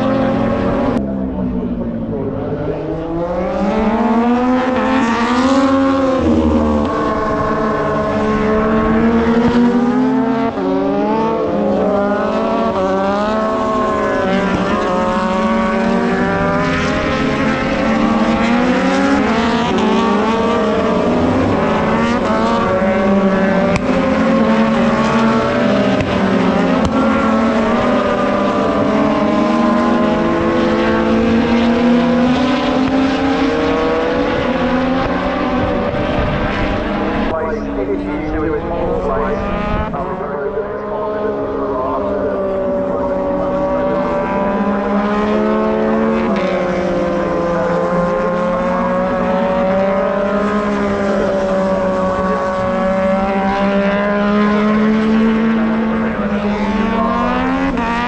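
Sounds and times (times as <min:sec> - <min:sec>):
racing motorcycle engines revving: 0:00.0 - 0:58.0.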